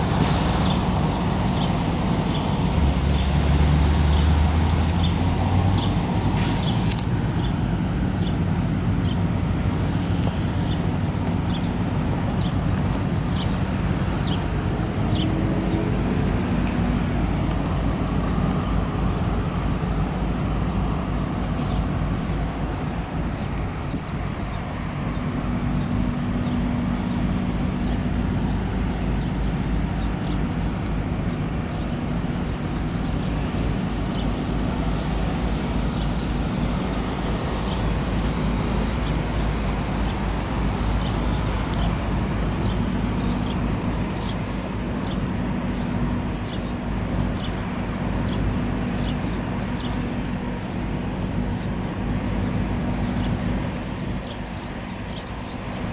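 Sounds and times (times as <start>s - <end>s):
cars and trucks passing: 0.0s - 55.9s
steady low hum: 7.1s - 55.9s.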